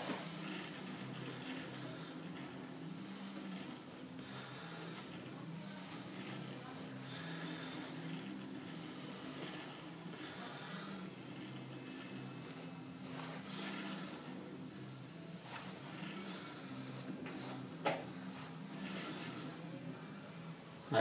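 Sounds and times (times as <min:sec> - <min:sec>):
person breathing heavily: 0:00.0 - 0:20.4.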